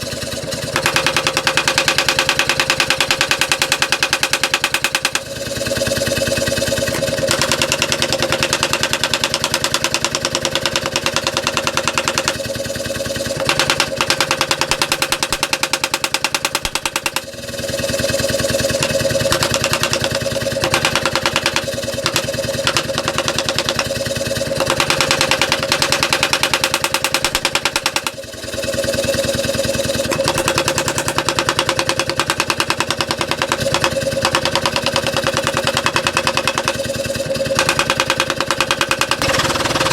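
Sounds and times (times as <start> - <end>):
mechanical hammer forging steel: 0.0 - 39.9.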